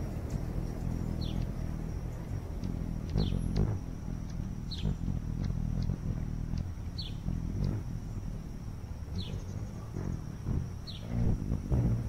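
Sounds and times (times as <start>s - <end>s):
continuous low rumble: 0.0s - 12.0s
faint high whine: 0.0s - 12.0s.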